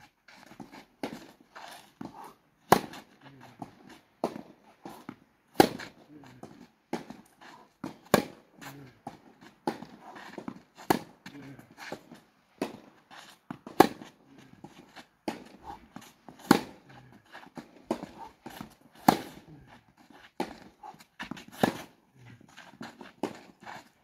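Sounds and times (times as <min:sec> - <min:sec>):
footsteps on clay court: 0:00.0 - 0:24.0
racket hitting tennis ball: 0:00.5 - 0:21.9, 0:22.5 - 0:23.9.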